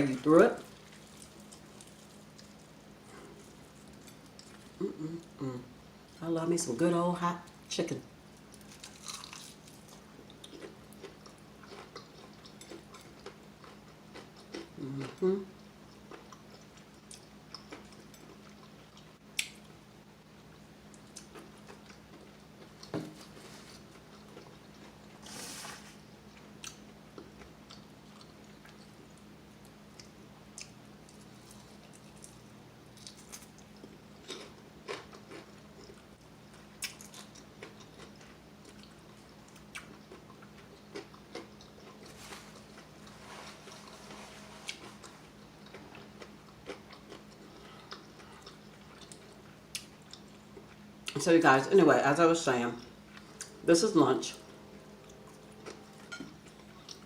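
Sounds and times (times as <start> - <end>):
faint steady hum: 0.0 - 57.0
crunching and chewing: 0.1 - 5.4, 8.3 - 19.8, 20.4 - 51.2, 55.0 - 57.0.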